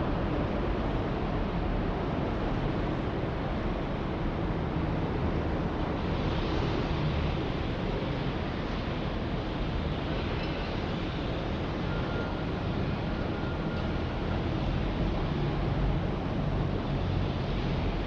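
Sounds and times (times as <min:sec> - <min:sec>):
rumble of traffic: 0:00.0 - 0:18.0.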